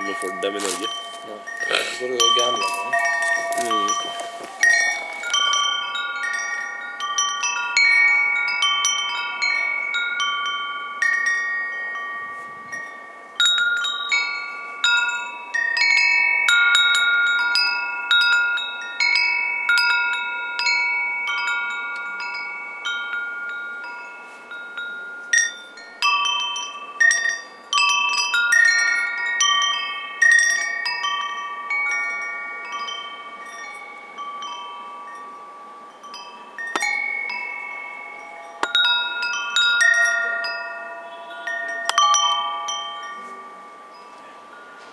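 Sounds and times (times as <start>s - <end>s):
wind chimes ringing: 0.0s - 44.9s.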